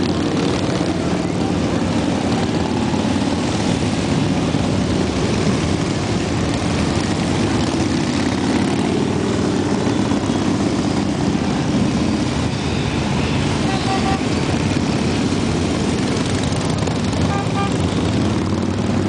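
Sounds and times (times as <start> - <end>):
motorcycles riding past: 0.0 - 19.0.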